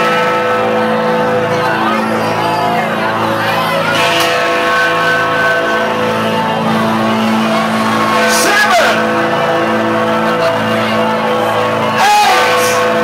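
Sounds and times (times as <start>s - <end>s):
music with sustained chords: 0.0s - 13.0s
party crowd: 0.0s - 13.0s.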